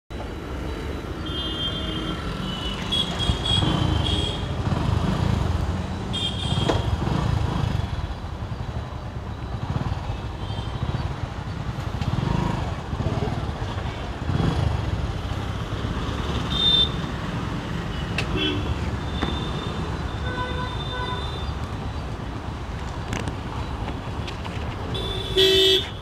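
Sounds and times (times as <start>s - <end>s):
motorcycles passing: 0.2s - 26.0s.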